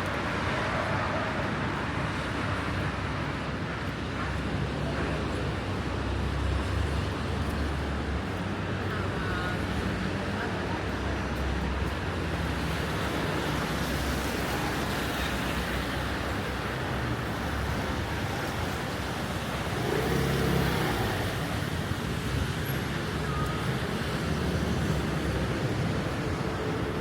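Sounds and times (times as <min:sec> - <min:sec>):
street traffic hiss: 0:00.0 - 0:27.0.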